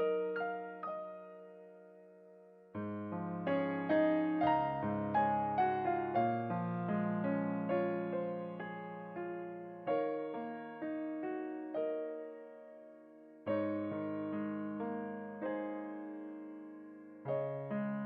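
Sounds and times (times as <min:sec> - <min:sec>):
gentle piano piece: 0:00.0 - 0:18.0.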